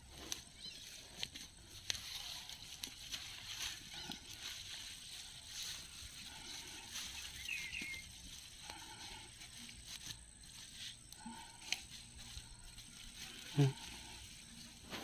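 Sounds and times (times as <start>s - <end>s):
hands scraping through soil: 0.0s - 15.0s.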